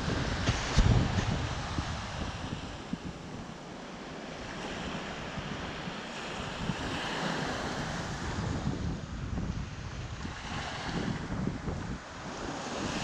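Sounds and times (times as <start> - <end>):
waves washing up shore: 0.0 - 13.0
wind buffeting microphone: 0.0 - 13.0.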